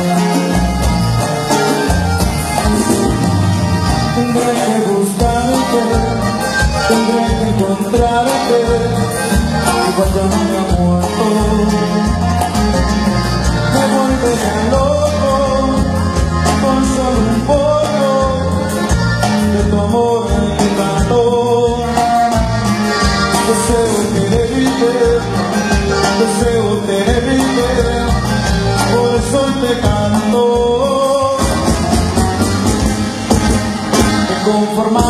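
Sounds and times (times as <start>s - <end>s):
man singing: 0.0s - 32.4s, 33.9s - 35.0s
acoustic guitar: 0.0s - 35.0s
bass: 0.0s - 35.0s
congas: 0.0s - 35.0s.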